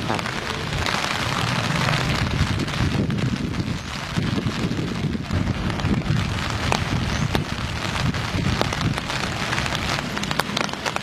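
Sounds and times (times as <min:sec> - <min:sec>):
continuous low rumble: 0:00.0 - 0:11.0
rain hissing: 0:00.0 - 0:11.0
raindrops tapping: 0:00.0 - 0:11.0.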